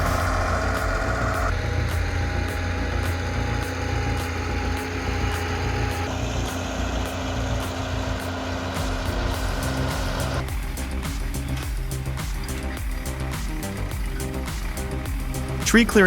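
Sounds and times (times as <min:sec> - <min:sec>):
background music with steady beat: 0:00.0 - 0:16.0
bulldozer engine rumbling: 0:00.0 - 0:16.0.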